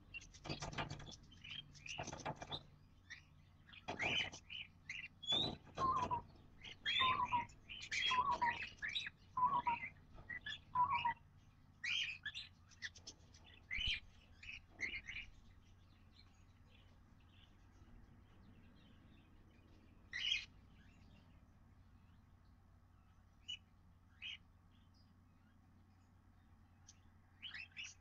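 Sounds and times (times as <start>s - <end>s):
parrot chicks cheeping: 0.0s - 28.0s.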